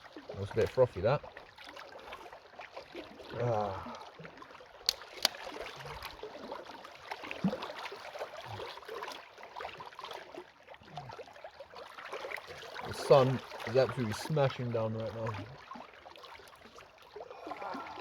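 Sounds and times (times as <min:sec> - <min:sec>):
lake water lapping at shore: 0:00.0 - 0:18.0.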